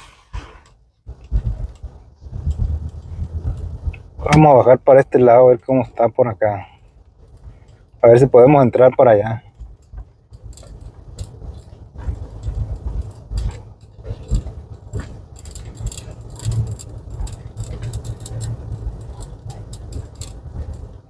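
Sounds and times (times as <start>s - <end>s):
car rolling with low rumble: 0.0s - 21.0s
light rattles and knocks: 0.6s - 21.0s.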